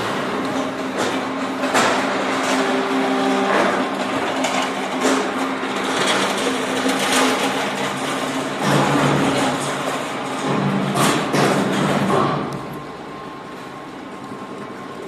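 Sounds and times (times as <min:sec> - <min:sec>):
machinery knocks and clatter: 0:00.0 - 0:12.7
machinery hum and hiss: 0:00.0 - 0:15.0.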